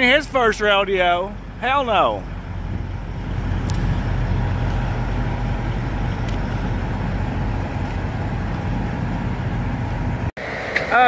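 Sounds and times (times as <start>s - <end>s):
diesel truck engine idling: 0.0s - 10.3s.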